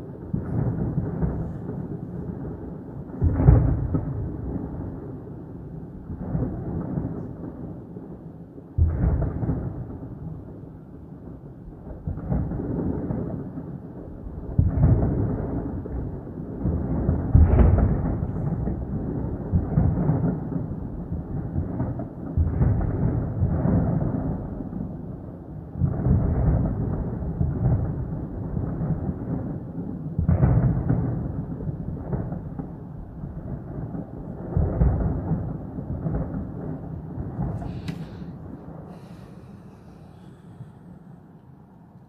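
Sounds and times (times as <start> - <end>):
thunder rumbling: 0.0 - 42.0.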